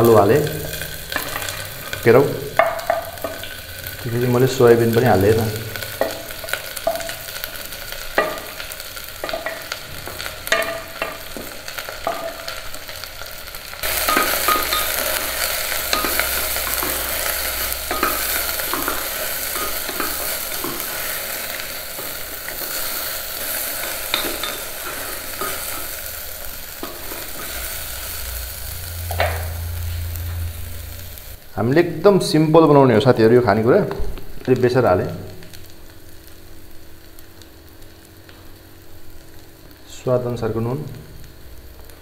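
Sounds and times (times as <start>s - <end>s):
vegetables sizzling in pan: 0.0s - 42.0s.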